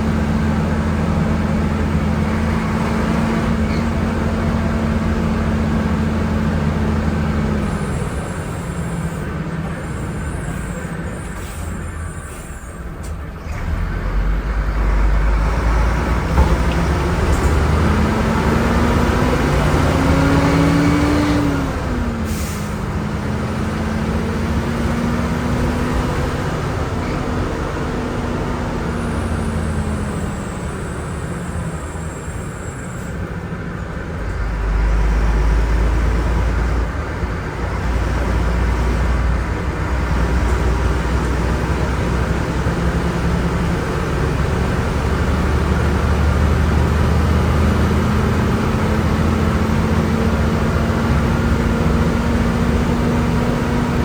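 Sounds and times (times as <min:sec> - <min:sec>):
bus diesel engine under load: 0:00.0 - 0:54.0.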